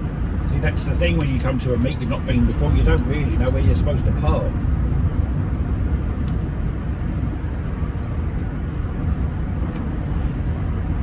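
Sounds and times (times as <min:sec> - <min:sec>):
road and engine rumble in car cabin: 0:00.0 - 0:11.0.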